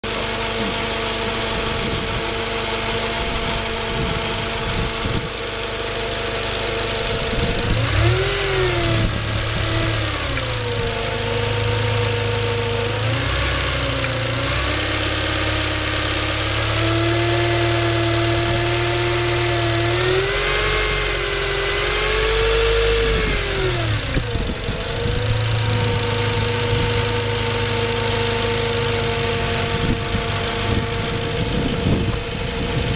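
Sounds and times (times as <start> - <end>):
car engine idling and revving: 0.0 - 32.9
whine from engine bay: 0.0 - 32.9.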